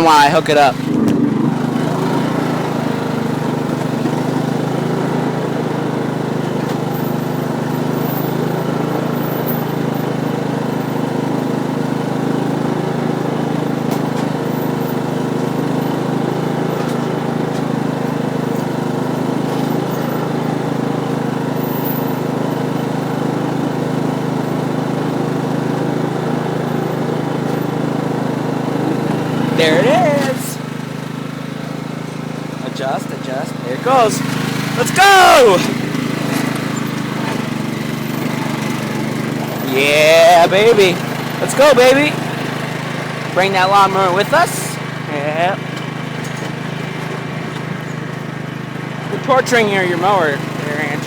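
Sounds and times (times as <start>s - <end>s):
lawn mower engine idling: 0.0s - 51.0s.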